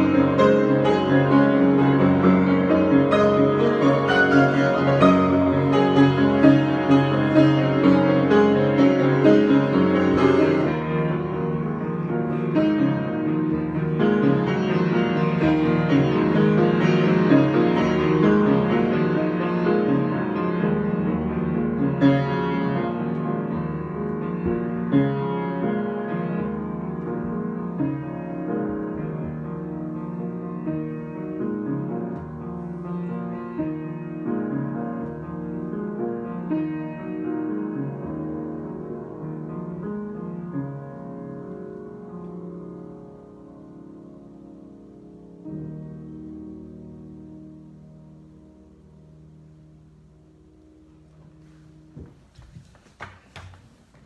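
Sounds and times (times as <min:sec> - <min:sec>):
solo piano improvisation: 0:00.0 - 0:54.0.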